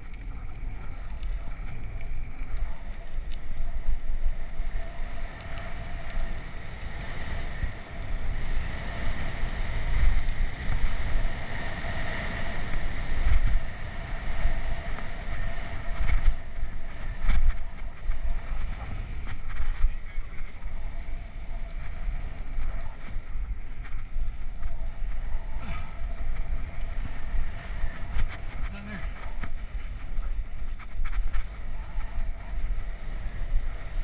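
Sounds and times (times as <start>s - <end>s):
bicycle tyre rumble on asphalt: 0.0s - 34.0s
wind buffeting microphone: 0.0s - 34.0s.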